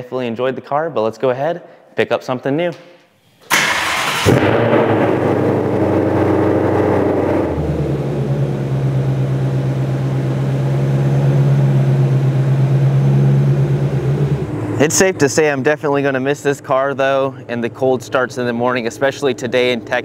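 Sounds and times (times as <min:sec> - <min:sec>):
car engine revving and idling: 0:03.8 - 0:20.0.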